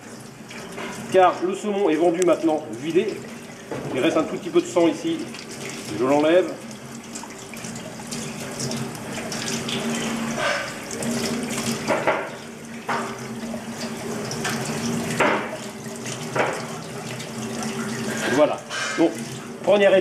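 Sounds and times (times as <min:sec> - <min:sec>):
tap water running into sink: 0:00.0 - 0:20.0
water splashes: 0:00.0 - 0:20.0.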